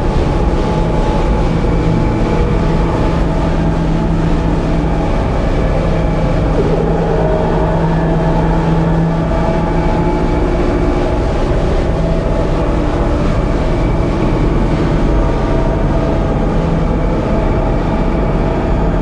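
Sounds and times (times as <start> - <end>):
drone noise music: 0.0 - 19.0.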